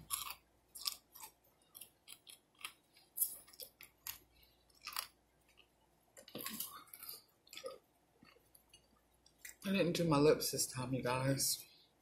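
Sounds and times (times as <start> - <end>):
chewing crunchy food: 0.0 - 9.6.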